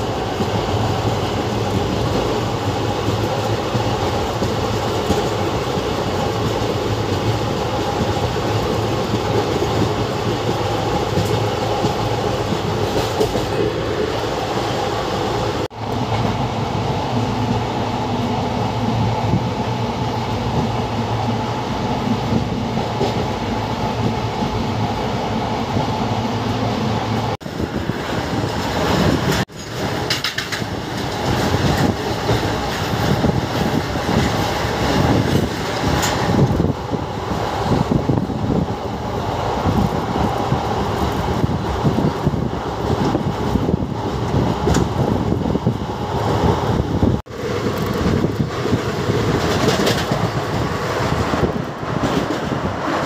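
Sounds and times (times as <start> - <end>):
train wheels on rails: 0.0 - 53.0.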